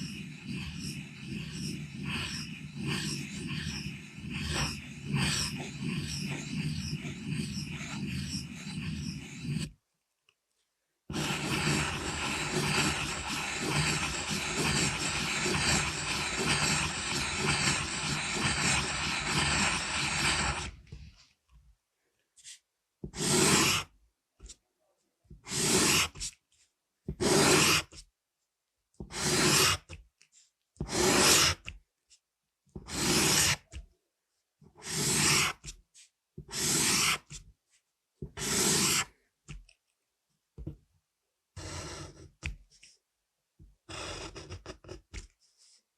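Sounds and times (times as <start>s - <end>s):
pencil scratching on paper: 0.0s - 9.8s, 11.1s - 21.3s, 22.4s - 24.6s, 25.3s - 28.1s, 29.0s - 33.9s, 34.7s - 39.7s, 41.6s - 43.0s, 43.9s - 45.8s.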